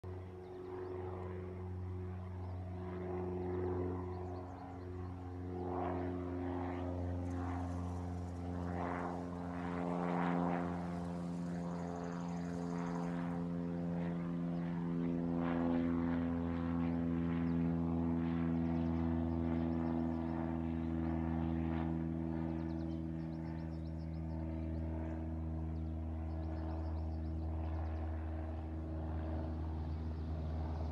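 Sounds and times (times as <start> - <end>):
propeller plane engine drone: 0.0 - 30.9.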